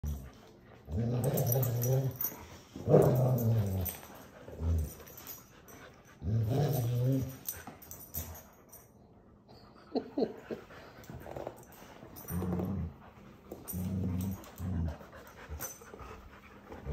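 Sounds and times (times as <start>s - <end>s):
puppies growling in play: 0.0s - 8.4s, 9.9s - 16.9s.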